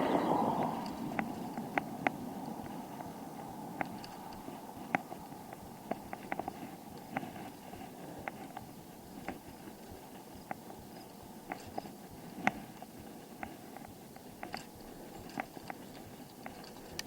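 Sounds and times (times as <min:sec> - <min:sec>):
bicycle clicks and crunches: 0:00.0 - 0:17.0
bicycle rolling and air noise: 0:00.0 - 0:17.0.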